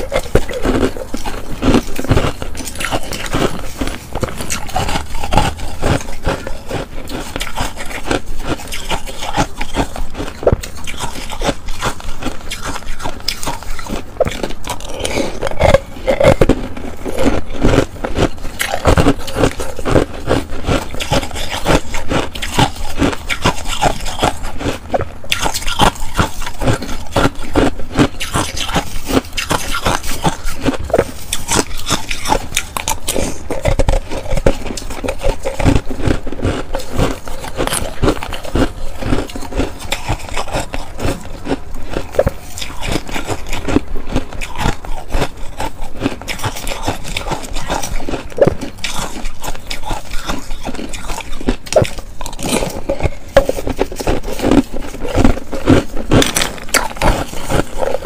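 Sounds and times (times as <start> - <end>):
ice being crunched and chewed: 0.0 - 58.0
spoon scraping shaved ice: 0.0 - 58.0.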